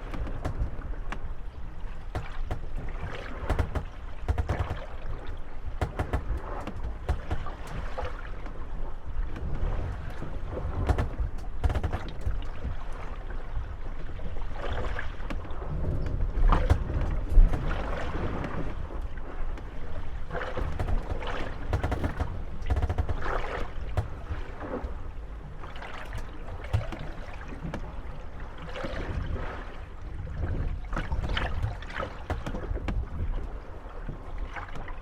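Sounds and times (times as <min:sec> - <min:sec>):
boats creaking and knocking: 0:00.0 - 0:35.0
water lapping against wooden hulls: 0:00.0 - 0:35.0.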